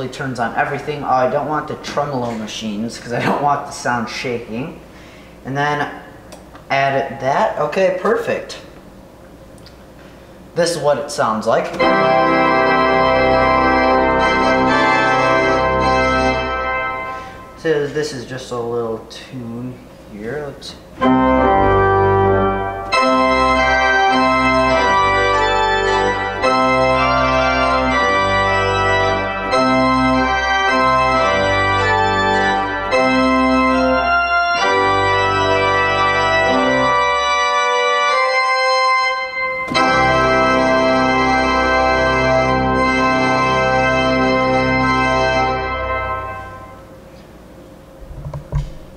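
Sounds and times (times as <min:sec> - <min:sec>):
organ pedal bass: 0:00.0 - 0:04.9, 0:10.6 - 0:19.0, 0:20.1 - 0:47.0
loud organ chords: 0:00.0 - 0:06.2, 0:10.3 - 0:19.1, 0:20.2 - 0:47.0.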